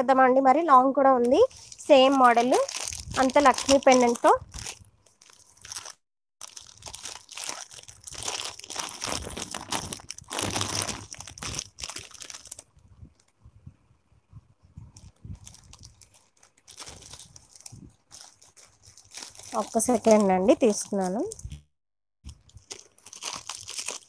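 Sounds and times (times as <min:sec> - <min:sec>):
packaging crinkling and rustling: 0:01.4 - 0:12.7, 0:15.0 - 0:21.6, 0:22.3 - 0:24.0.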